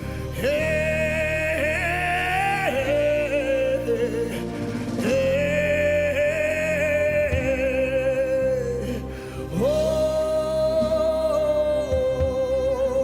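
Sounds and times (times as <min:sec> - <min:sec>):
person singing long notes: 0:00.0 - 0:13.0
sustained accompaniment chords: 0:00.0 - 0:13.0.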